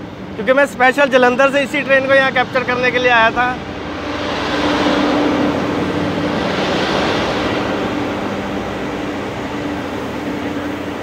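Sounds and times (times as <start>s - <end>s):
diesel generator hum: 0.0s - 11.0s
rushing rail noise: 0.0s - 11.0s.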